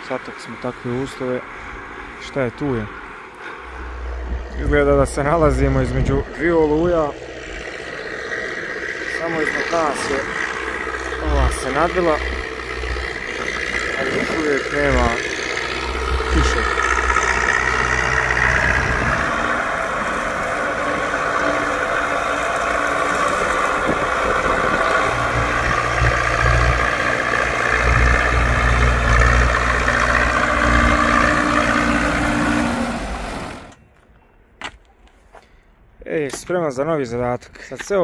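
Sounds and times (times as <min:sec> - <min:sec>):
tractor diesel engine running: 0:00.0 - 0:33.8.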